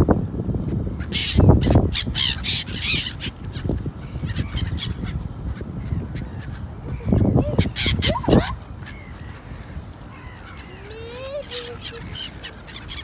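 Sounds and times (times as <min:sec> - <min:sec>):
gulls calling: 0:00.6 - 0:13.0.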